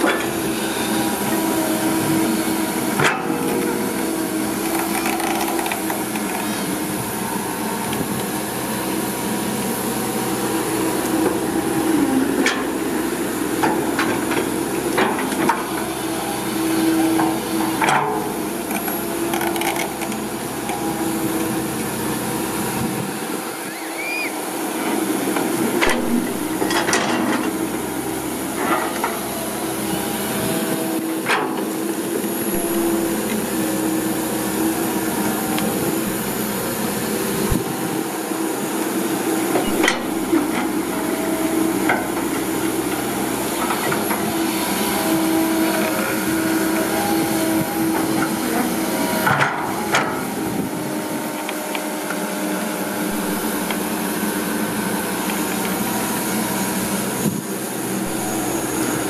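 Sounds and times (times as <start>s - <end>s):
excavator engine and hydraulics drone: 0.0s - 59.0s.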